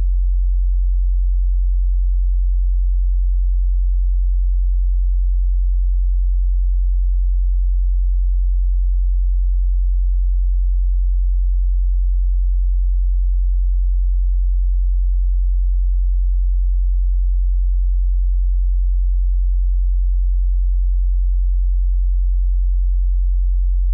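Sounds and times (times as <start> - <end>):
low synthetic sine tone hum: 0.0 - 23.9.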